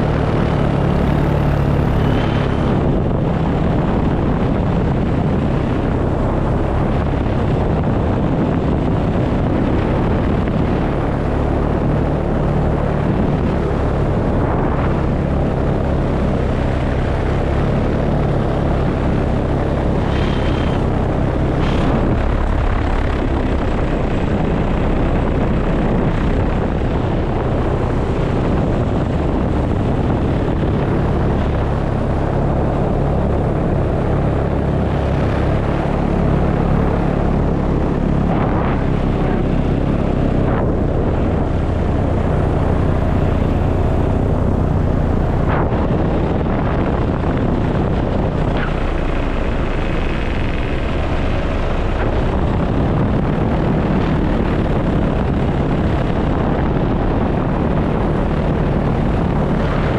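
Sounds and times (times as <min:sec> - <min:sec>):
paramotor engine drone: 0:00.0 - 0:59.9.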